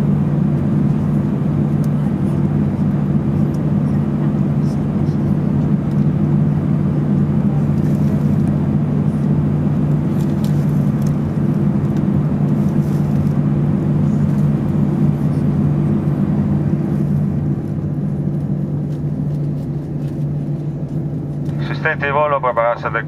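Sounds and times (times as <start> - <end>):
jet engines humming in cabin: 0.0 - 23.0.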